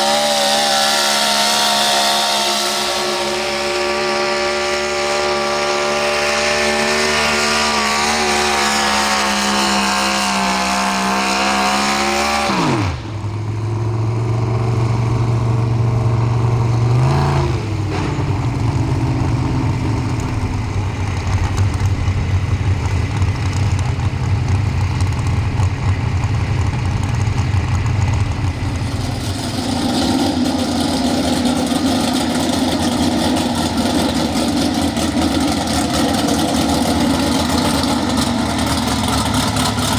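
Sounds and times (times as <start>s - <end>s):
different engine sound: 0.0s - 39.9s
truck engine revving and idling: 0.0s - 39.9s.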